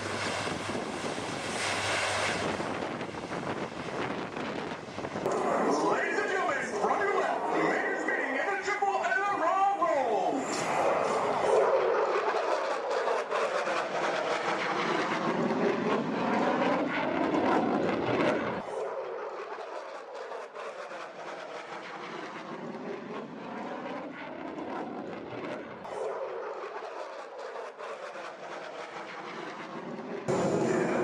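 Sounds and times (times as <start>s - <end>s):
aircraft flying past: 0.0s - 9.4s, 10.0s - 31.0s.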